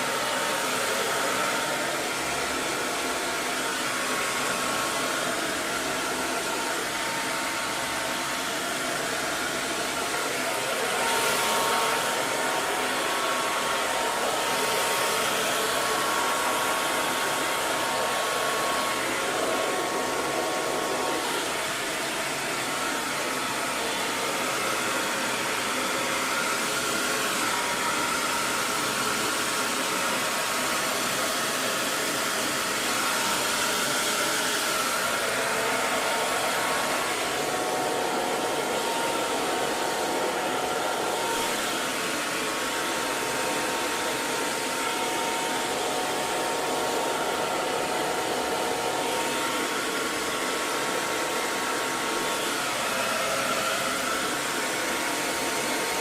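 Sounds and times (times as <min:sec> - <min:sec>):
hair dryer blowing air: 0:00.0 - 0:56.0
hair dryer motor whine: 0:00.0 - 0:56.0.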